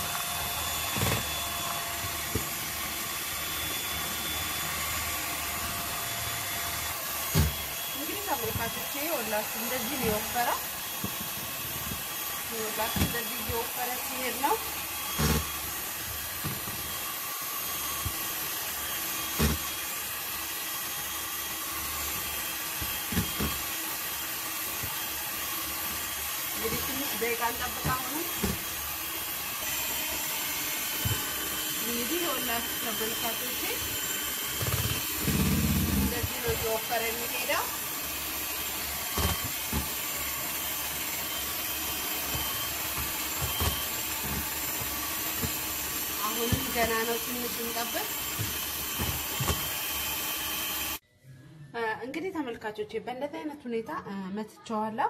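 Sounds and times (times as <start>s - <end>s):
electric hand mixer running: 0.0s - 51.0s.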